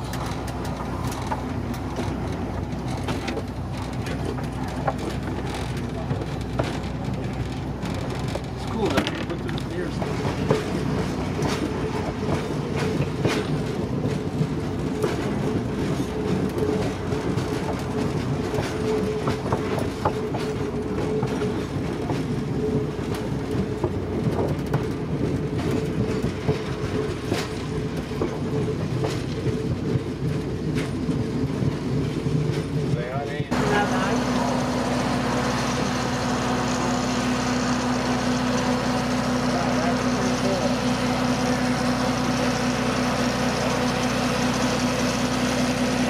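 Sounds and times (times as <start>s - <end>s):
railroad car rumble: 0.0s - 46.0s
train wheels clicking over rails: 0.0s - 46.0s.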